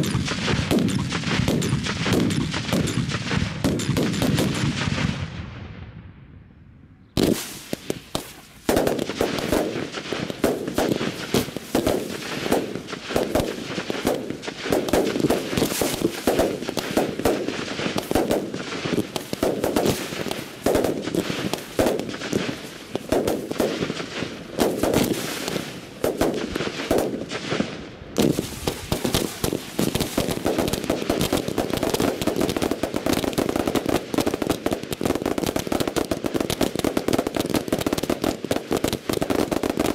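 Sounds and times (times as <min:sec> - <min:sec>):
firecrackers banging rapidly: 0:00.0 - 0:05.3, 0:07.2 - 0:39.9.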